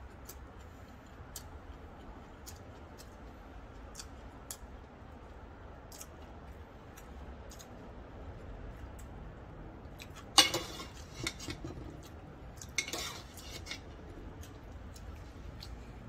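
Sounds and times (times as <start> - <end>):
chewing food: 0.0 - 10.4, 11.1 - 16.0
low steady hum: 0.0 - 16.0.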